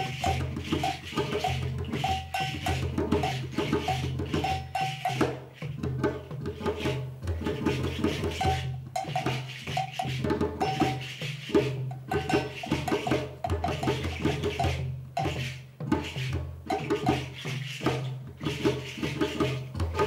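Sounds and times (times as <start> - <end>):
djembe hand drums: 0.0 - 20.0
shaker hiss: 0.0 - 20.0.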